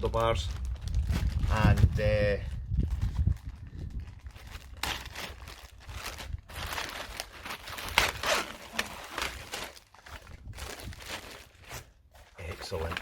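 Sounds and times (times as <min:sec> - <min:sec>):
bag rustling and crinkling: 0:00.0 - 0:13.0.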